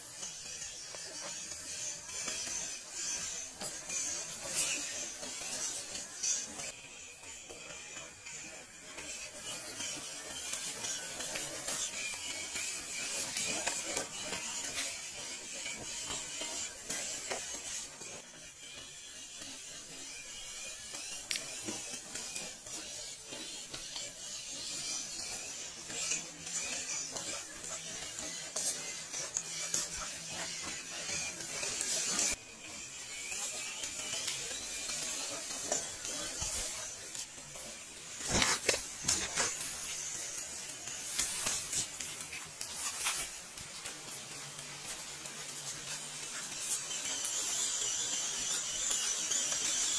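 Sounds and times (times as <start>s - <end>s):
toy car motor whirring: 0.0s - 49.9s.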